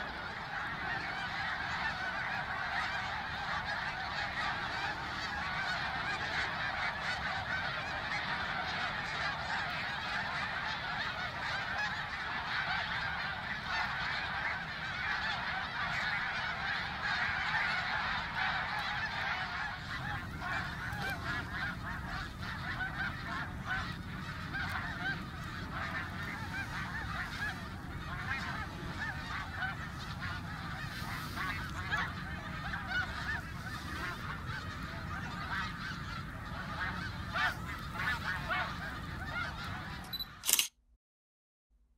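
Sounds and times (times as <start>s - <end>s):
flock of geese honking: 0.0s - 40.4s.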